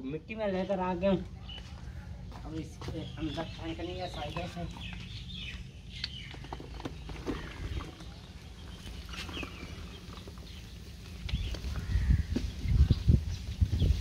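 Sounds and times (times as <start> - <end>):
faint bird calls: 1.3 - 13.4.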